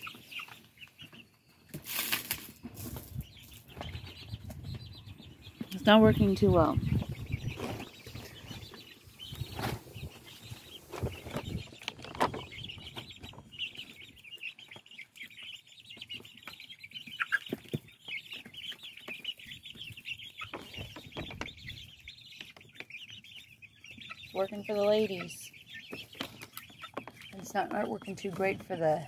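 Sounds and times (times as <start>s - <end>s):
young birds peeping chorus: 0.0s - 29.0s.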